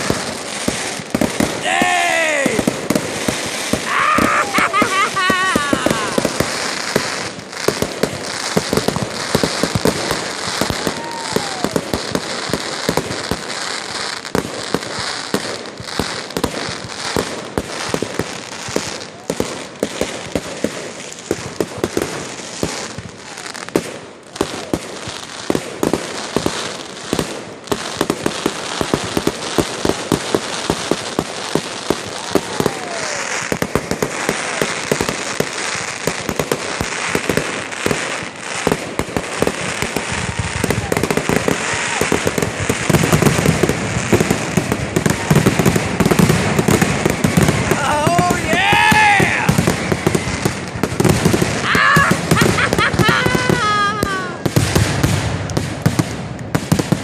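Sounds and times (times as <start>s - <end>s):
fireworks popping and crackling: 0.0s - 57.0s.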